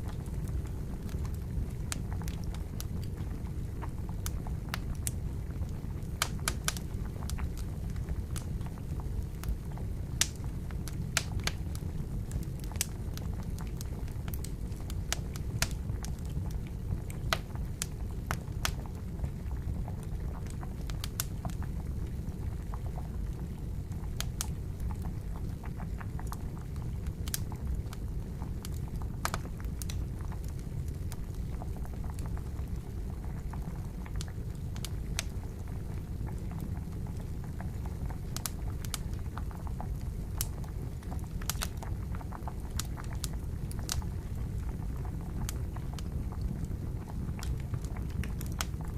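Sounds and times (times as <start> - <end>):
water boiling: 0.0 - 48.9
wood fire crackling and popping: 0.0 - 48.9.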